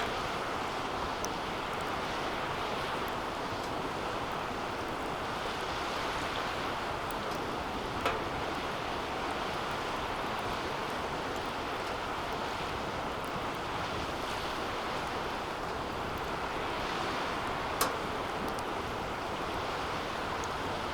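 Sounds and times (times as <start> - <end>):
fire crackling: 0.0 - 20.9
wood fire rushing flame: 0.0 - 20.9.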